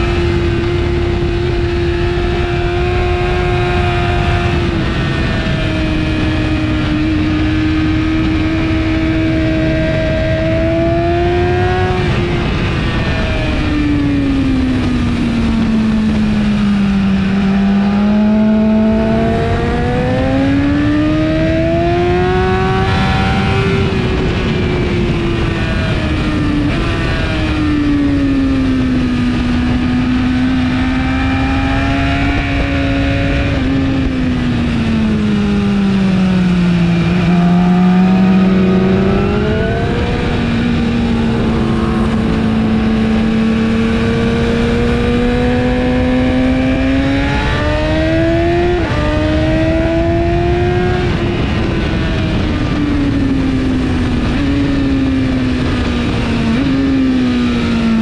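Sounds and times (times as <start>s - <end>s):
motorcycle engine at high revs: 0.0s - 58.0s
wind rushing: 0.0s - 58.0s.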